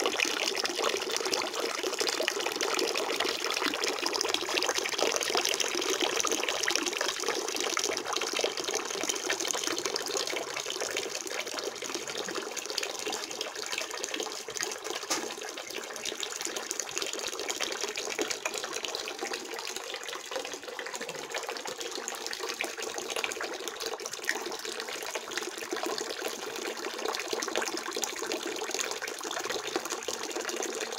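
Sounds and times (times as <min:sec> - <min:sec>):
water pouring and splashing: 0:00.0 - 0:30.9.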